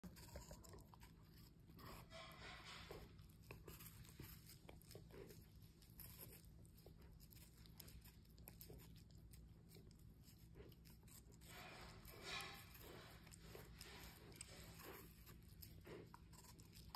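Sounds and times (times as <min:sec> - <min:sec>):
puppy chewing apple: 0:00.0 - 0:16.9.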